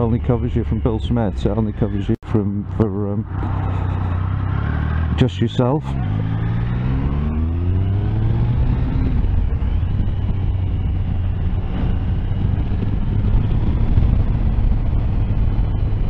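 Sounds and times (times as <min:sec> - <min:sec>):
motorcycle engine accelerating: 0:00.0 - 0:16.0
wind rush over microphone: 0:00.0 - 0:16.0.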